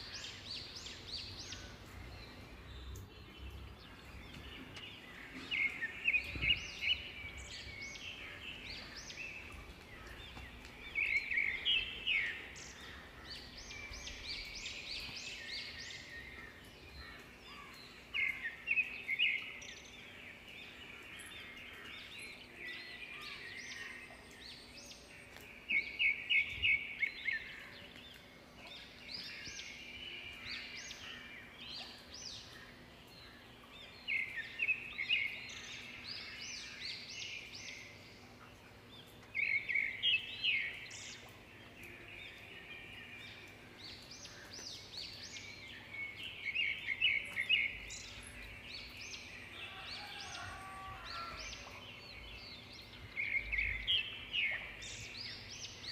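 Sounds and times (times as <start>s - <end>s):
birds chirping and singing: 0.0s - 55.9s.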